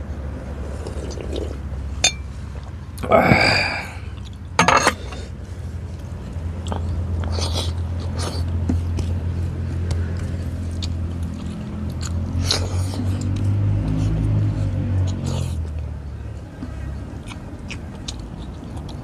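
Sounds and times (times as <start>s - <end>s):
steady low hum: 0.0s - 16.6s
man chewing and mouth sounds: 0.0s - 19.0s.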